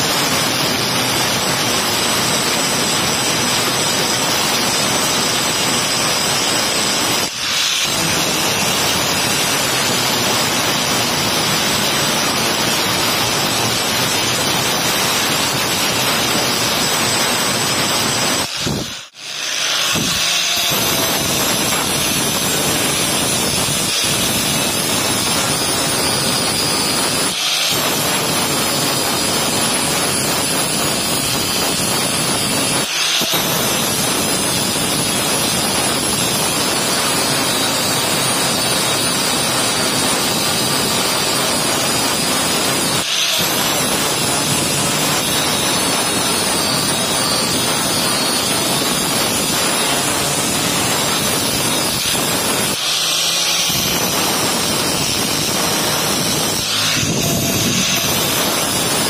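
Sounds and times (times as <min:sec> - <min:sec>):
angle grinder grinding steel: 0:00.0 - 0:59.0.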